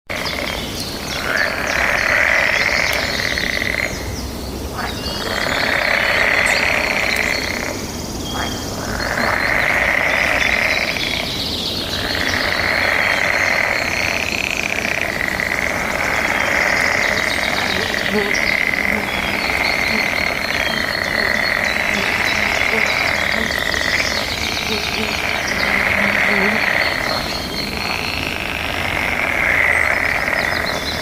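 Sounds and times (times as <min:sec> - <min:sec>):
frogs calling: 0:00.1 - 0:31.0
small birds chirping: 0:00.1 - 0:31.0.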